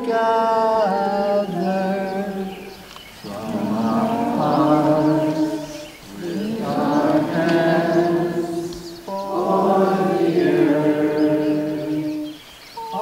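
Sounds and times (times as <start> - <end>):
crowd singing in unison: 0.0 - 13.0.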